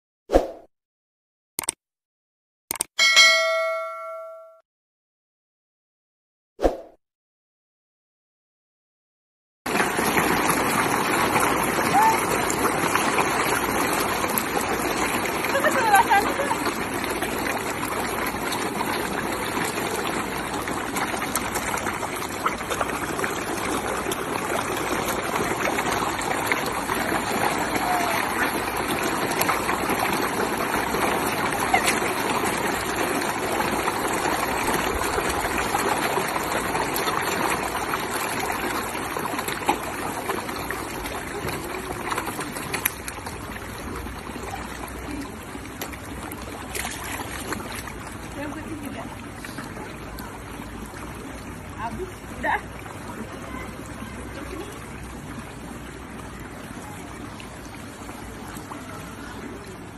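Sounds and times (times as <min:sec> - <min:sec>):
fish splashing in water: 0:09.7 - 0:59.9.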